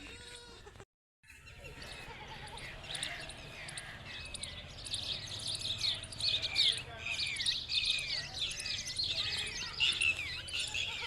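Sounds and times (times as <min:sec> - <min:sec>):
small birds chirping: 0:01.2 - 0:11.0.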